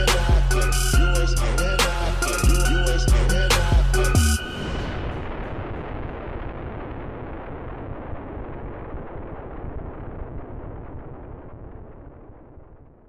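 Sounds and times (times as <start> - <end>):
dense rumbling noise: 0.0 - 13.0.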